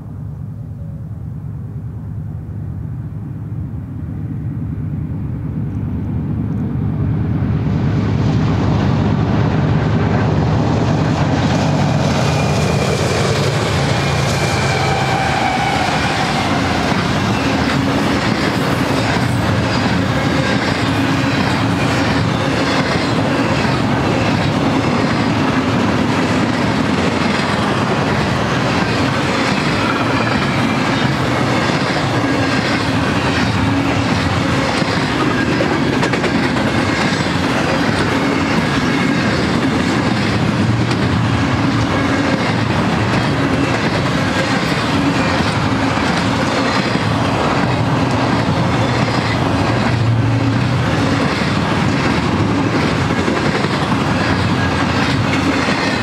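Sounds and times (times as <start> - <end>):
diesel locomotives passing: 0.0 - 56.0
train cars rumbling: 1.7 - 56.0
wheels clacking on rail joints: 10.1 - 56.0.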